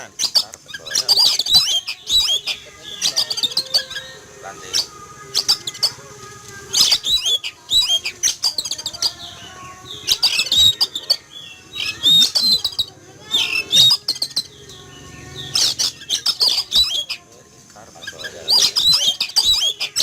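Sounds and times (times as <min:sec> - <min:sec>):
bird singing chirps and whistles: 0:00.0 - 0:20.0.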